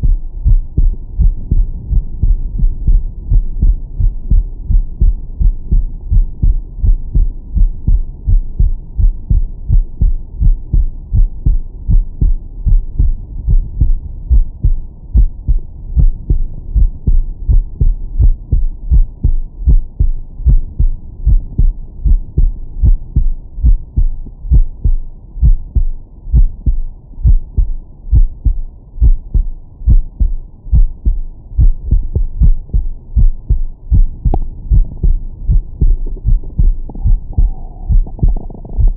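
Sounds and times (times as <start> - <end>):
heartbeat through stethoscope: 0.0 - 38.9.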